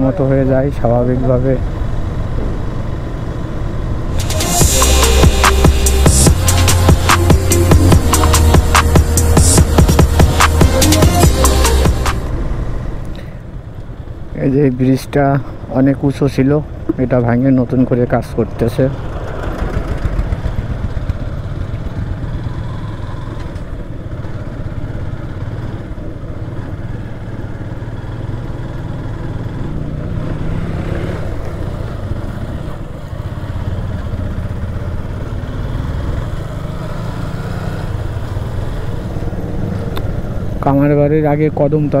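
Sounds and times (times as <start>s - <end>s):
wind and road noise: 0.0s - 42.0s
motorcycle engine running: 1.8s - 13.0s, 18.9s - 42.0s.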